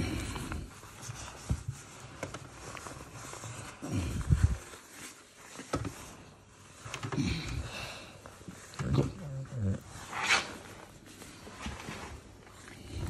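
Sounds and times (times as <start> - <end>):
fabric rustling: 0.0 - 7.4, 9.8 - 13.0.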